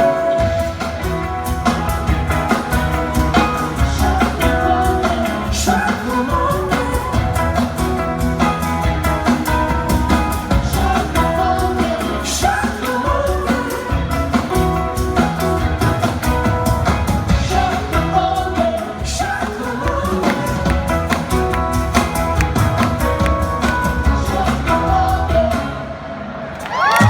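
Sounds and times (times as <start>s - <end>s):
live rock band: 0.0s - 27.0s
sung vocals: 0.0s - 27.0s.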